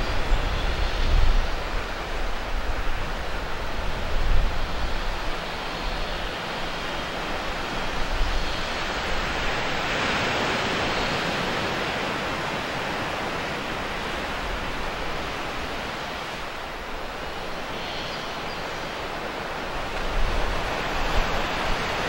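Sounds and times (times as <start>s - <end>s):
waves washing ashore: 0.0s - 22.0s.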